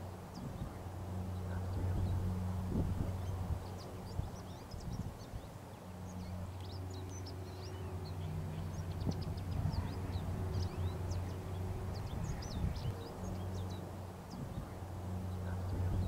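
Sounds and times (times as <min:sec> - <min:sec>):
small birds chirping: 0:00.0 - 0:16.0
steady low drone: 0:00.0 - 0:16.0.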